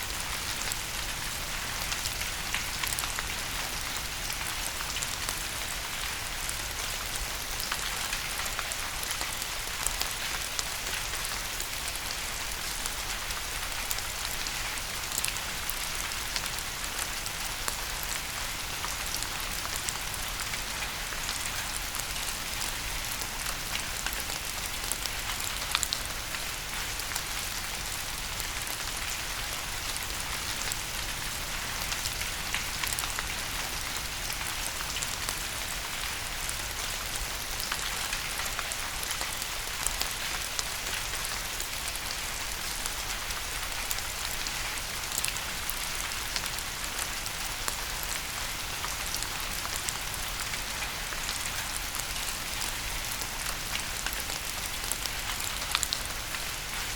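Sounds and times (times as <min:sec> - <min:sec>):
rain pattering on a surface: 0:00.0 - 0:56.9.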